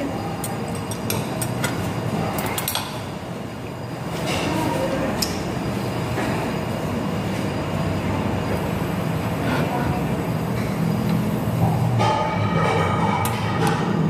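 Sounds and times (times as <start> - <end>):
continuous rushing hiss: 0.0 - 14.0.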